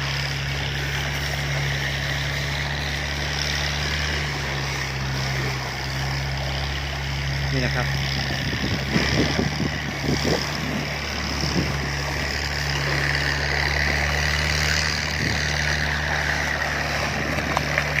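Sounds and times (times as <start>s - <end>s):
engine running: 0.0s - 18.0s
mud slurry pouring from pipe: 0.0s - 18.0s.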